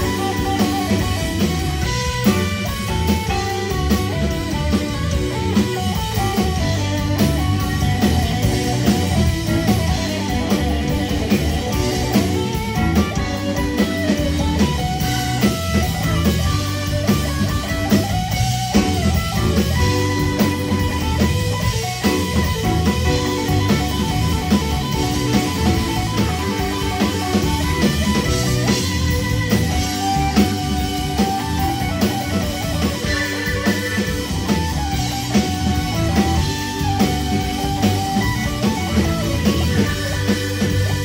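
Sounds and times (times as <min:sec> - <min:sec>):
drum kit: 0:00.0 - 0:41.0
electric guitar lead solo: 0:00.0 - 0:41.0
rhythm guitar: 0:00.0 - 0:41.0.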